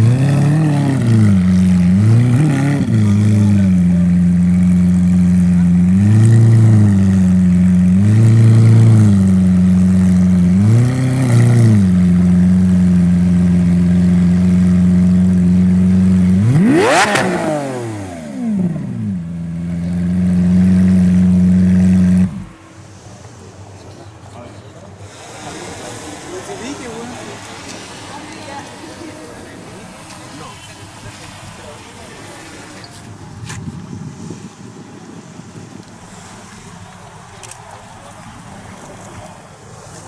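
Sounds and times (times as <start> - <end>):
sports car engine idling and revving: 0.0 - 40.0.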